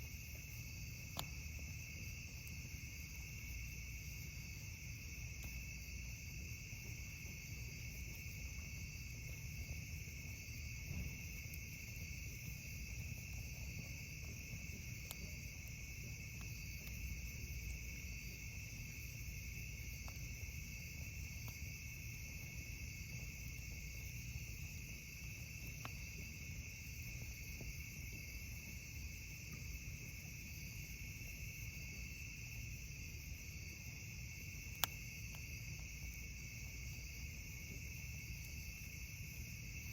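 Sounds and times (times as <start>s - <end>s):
campfire pops: 0.0s - 30.6s, 33.4s - 38.8s
crickets trilling: 0.0s - 39.9s.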